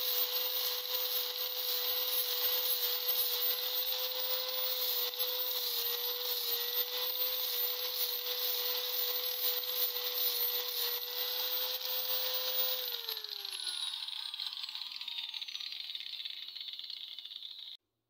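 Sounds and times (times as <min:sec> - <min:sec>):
angle grinder grinding steel: 0:00.0 - 0:17.8.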